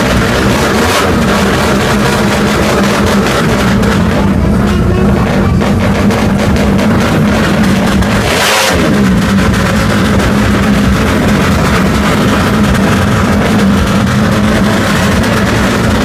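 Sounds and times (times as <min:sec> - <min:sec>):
motorcycle engine running loudly: 0:00.0 - 0:16.0.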